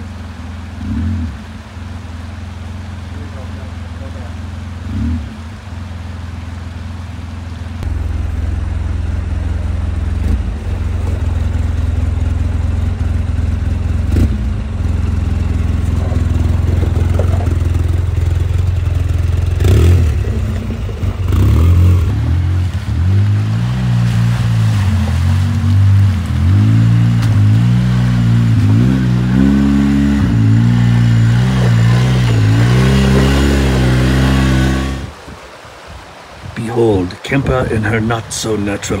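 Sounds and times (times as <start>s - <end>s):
jeep engine running: 0.0s - 35.2s.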